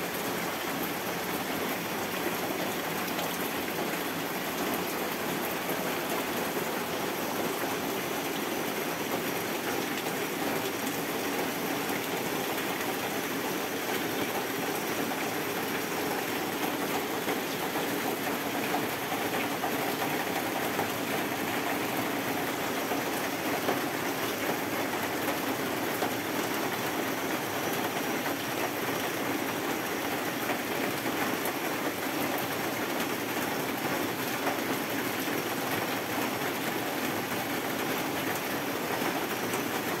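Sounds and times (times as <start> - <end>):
steady rain on wet ground: 0.0 - 40.0.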